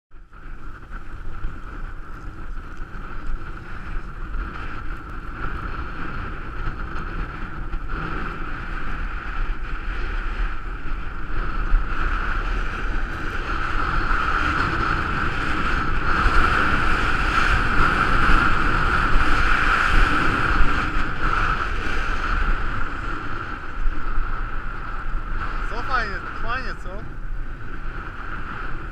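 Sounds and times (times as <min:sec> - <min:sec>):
wind rushing over microphone: 0:00.1 - 0:28.9
skis sliding on snow: 0:00.4 - 0:28.9.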